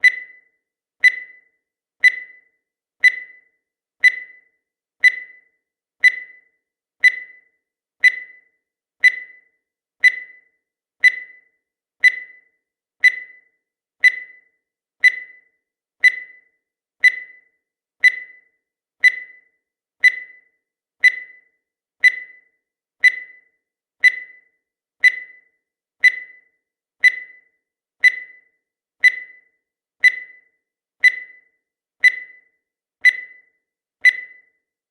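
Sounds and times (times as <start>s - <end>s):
short high-pitched beeps: 0.0s - 34.6s.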